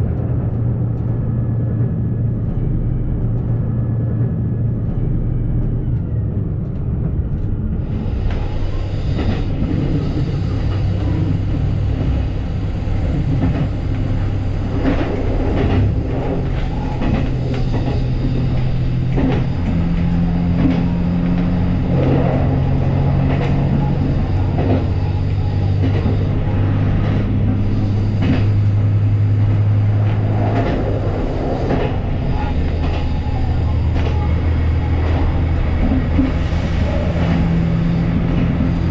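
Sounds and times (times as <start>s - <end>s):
railcar engine droning: 0.0s - 38.9s.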